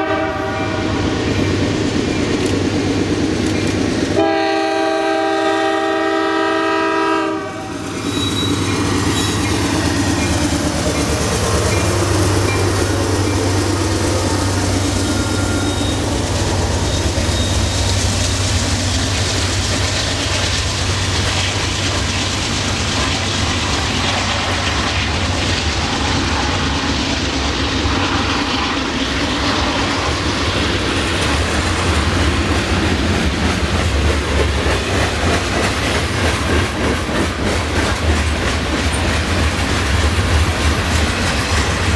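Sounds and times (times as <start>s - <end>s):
locomotive engine passing: 0.0s - 41.9s
train cars rumbling: 0.0s - 41.9s
train wheels clattering: 7.8s - 41.9s.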